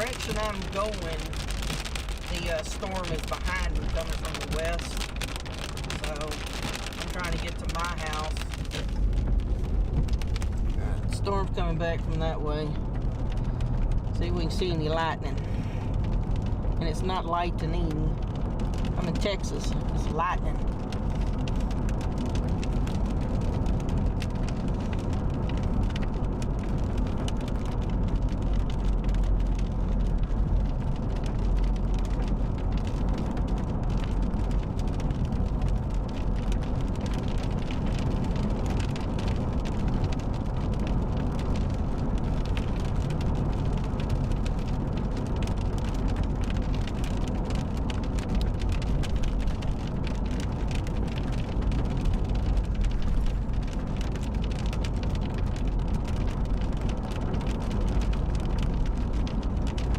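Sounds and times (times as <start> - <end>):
rain hitting car roof: 0.0 - 59.9
road noise: 0.0 - 59.9.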